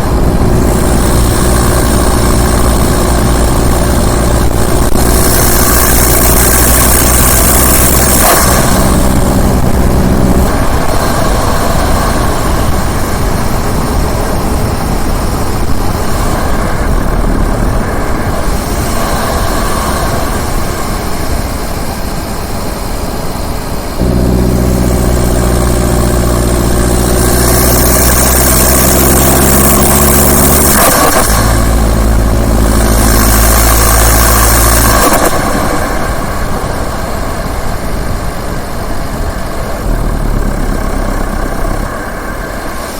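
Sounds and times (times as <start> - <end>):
diesel engine running: 0.0 - 42.9
turbo rushing hiss: 0.0 - 42.9.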